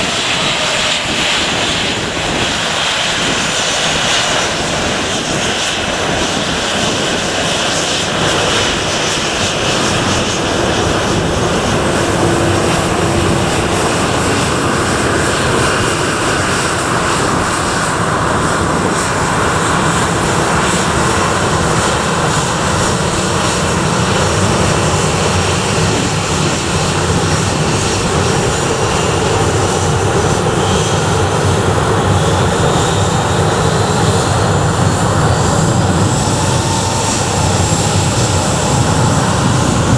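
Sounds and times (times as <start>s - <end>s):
aircraft engines running with whine: 0.0s - 39.9s.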